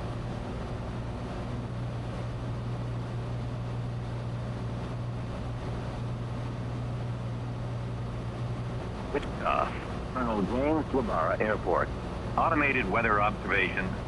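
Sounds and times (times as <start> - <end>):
light aircraft engine drone in cabin: 0.0 - 14.0.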